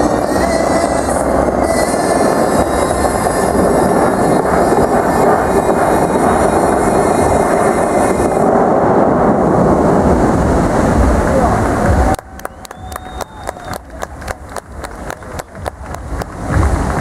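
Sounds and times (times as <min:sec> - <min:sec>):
fountain water jets rushing: 0:00.0 - 0:17.0.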